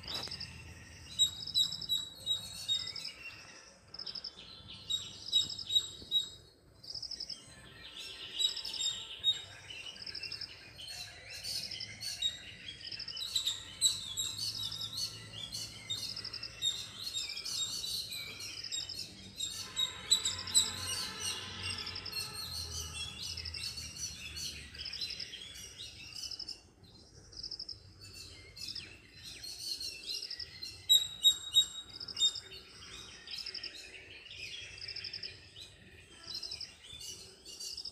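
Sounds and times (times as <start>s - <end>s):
birds chirping and trilling: 0.0s - 37.9s.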